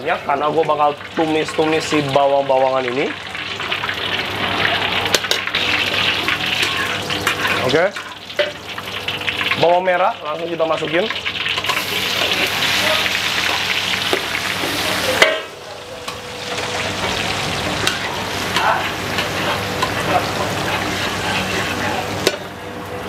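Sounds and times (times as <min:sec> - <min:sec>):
shallots sizzling in hot oil: 0:00.0 - 0:23.0.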